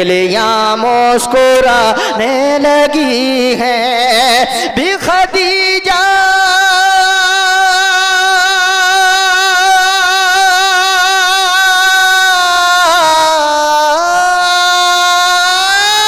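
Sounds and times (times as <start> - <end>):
man singing with vibrato: 0.0 - 16.0.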